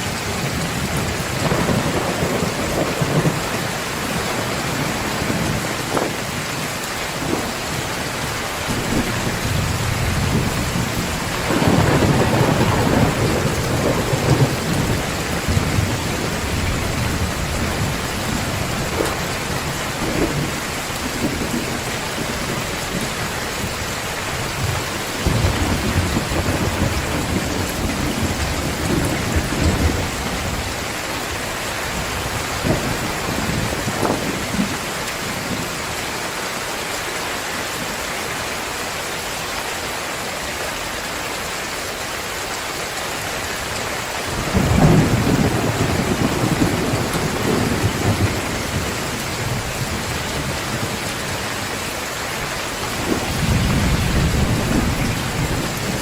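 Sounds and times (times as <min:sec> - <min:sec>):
thunder rumbling: 0:00.0 - 0:35.9, 0:44.3 - 0:56.0
heavy rain falling: 0:00.0 - 0:56.0.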